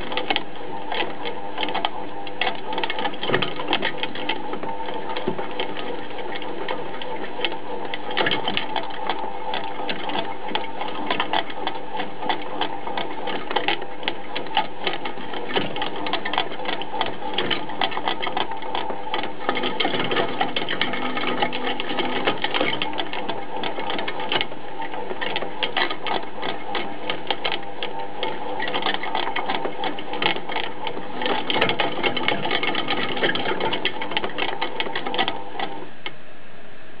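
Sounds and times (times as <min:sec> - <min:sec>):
rapid machine clicking: 0:00.0 - 0:35.9
machine hum: 0:00.0 - 0:37.0.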